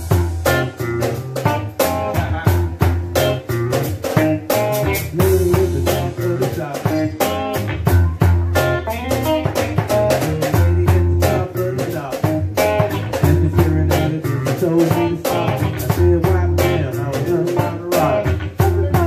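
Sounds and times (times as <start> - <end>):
drum kit beat: 0.0 - 19.0
electric guitar: 0.0 - 19.0.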